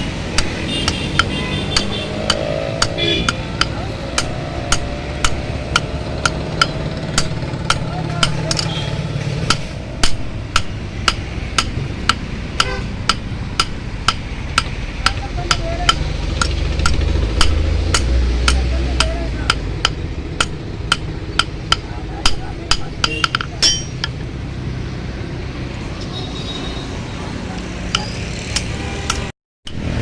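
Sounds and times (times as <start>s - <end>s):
hammer striking metal on anvil: 0.0s - 24.2s
steady low rumble: 1.6s - 25.9s.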